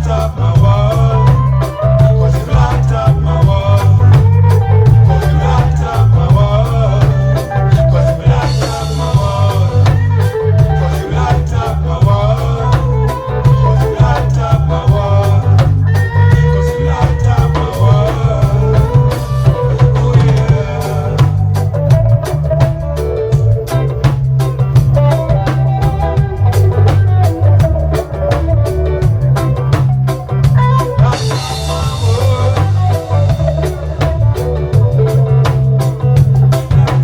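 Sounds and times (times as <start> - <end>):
drum kit beat: 0.0 - 37.0
live reggae band playing: 0.0 - 37.0
pulsing bass line: 0.0 - 37.0.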